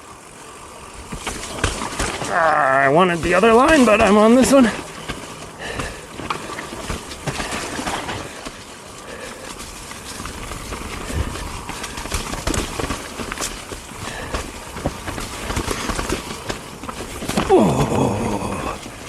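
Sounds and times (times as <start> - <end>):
bike knocking and rattling: 0.0 - 19.0
tyre rumble over dirt: 0.1 - 19.0.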